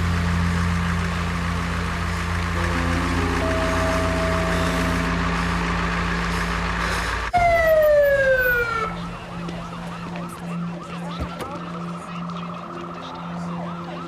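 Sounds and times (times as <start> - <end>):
dramatic music: 0.1 - 14.0
police siren wailing and yelping: 2.6 - 14.0.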